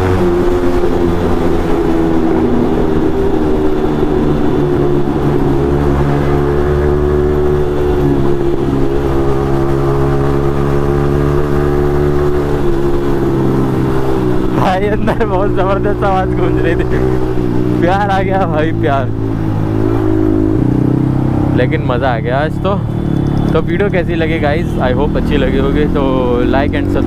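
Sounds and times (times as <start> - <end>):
motorcycle engine in tunnel: 0.0 - 27.0.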